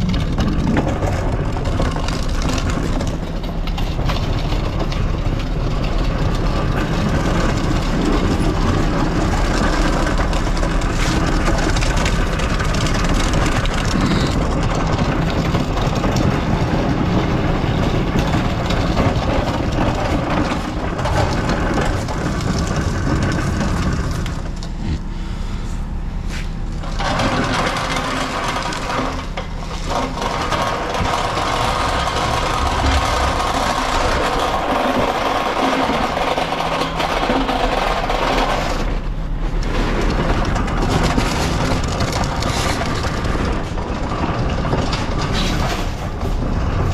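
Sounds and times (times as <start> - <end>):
knocks and rattles: 0.0 - 25.1, 26.7 - 46.9
heavy truck engine running: 0.0 - 46.9.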